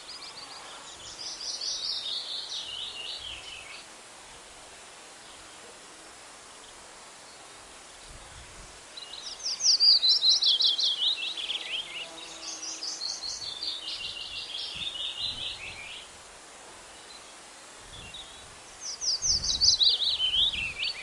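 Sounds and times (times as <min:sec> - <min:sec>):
songbird singing: 0:00.0 - 0:03.9, 0:05.1 - 0:21.0
forest ambience hiss: 0:00.0 - 0:21.0.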